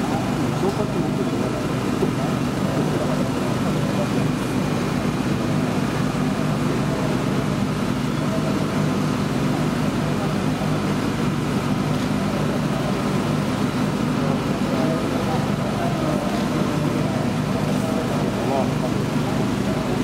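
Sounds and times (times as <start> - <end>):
racing engine idling: 0.0 - 20.0.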